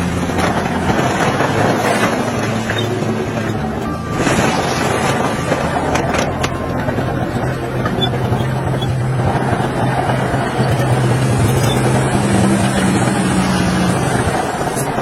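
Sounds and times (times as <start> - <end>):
diesel engine running: 0.0 - 15.0
higher engine tone: 0.0 - 15.0.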